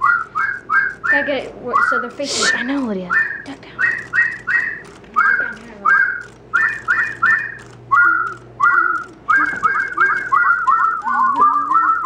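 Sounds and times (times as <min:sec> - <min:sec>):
electronic toy birds chirping: 0:00.0 - 0:12.0.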